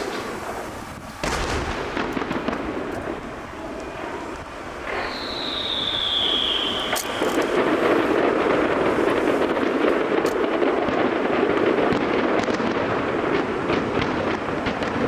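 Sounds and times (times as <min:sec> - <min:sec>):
fireworks crackling: 0:00.0 - 0:15.0
whistling firework rocket: 0:00.0 - 0:15.0.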